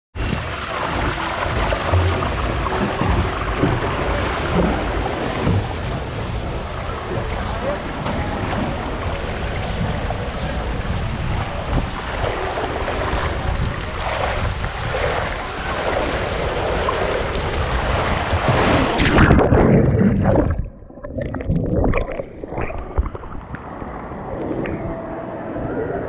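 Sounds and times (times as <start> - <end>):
rushing water on slide: 0.2 - 24.8
rider sliding down water slide: 0.2 - 25.3
underwater gurgling and bubbles: 0.2 - 26.0.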